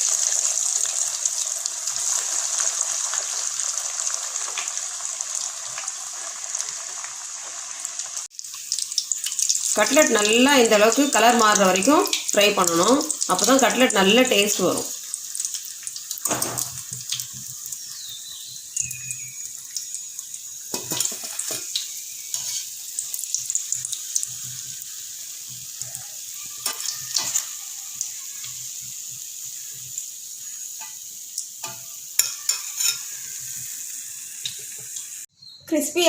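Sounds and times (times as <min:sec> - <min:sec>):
chicken deep-frying in oil: 0:00.0 - 0:36.0.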